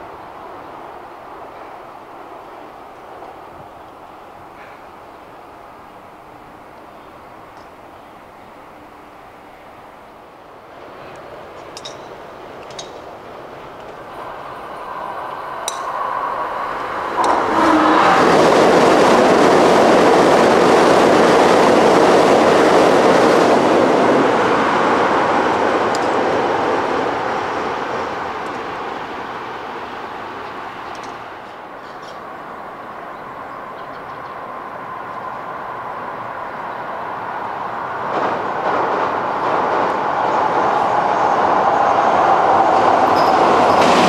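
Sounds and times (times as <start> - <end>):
train crossing a steel bridge: 0.0 - 44.0.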